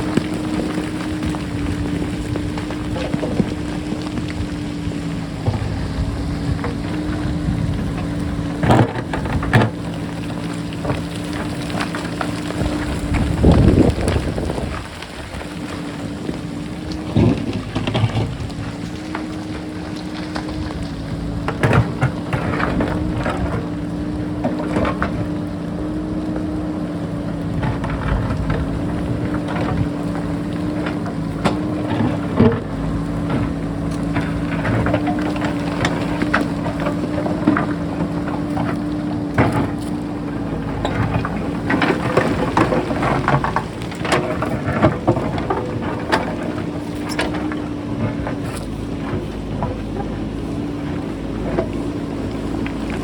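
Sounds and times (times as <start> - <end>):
bucket scraping rock: 0.0 - 25.3, 27.7 - 53.0
diesel engine running: 0.0 - 53.0.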